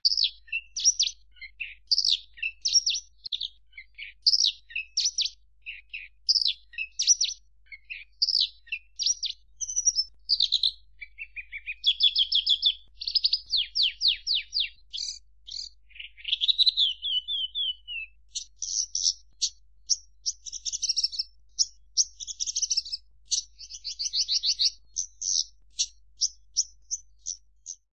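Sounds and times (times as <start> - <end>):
songbird singing: 0.0 - 27.9.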